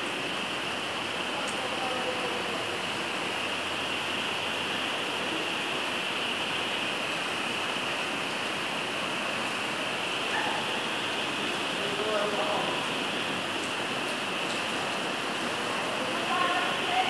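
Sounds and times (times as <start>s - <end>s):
heavy rain falling on water: 0.0s - 17.0s.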